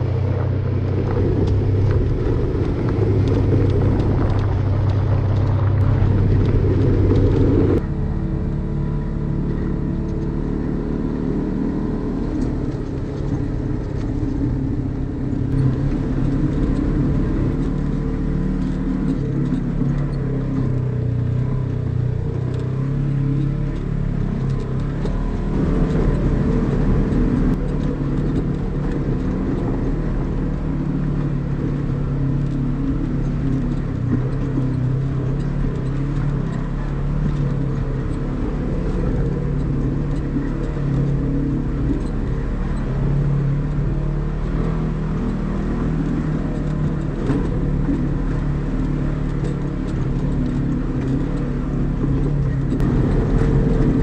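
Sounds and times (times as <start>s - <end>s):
vehicle engine running steadily: 0.0s - 54.0s.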